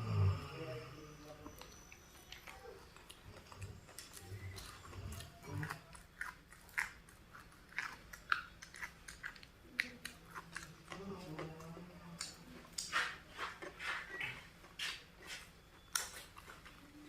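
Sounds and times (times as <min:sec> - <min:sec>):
person chewing and crunching food: 0:01.2 - 0:17.0.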